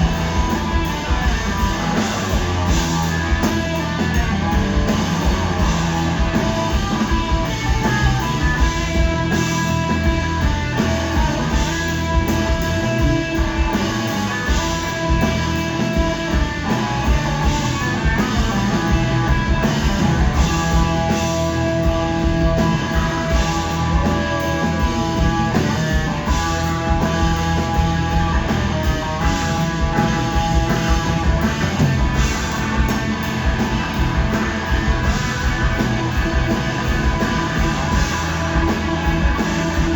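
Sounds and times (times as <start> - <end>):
blues rock band playing: 0.0 - 39.9
electric guitar: 0.0 - 39.9.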